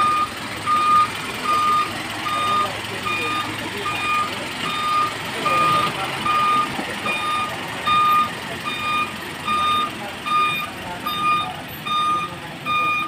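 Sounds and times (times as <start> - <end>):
diesel engine running: 0.0 - 13.0
truck reverse alarm beeping: 0.0 - 13.0.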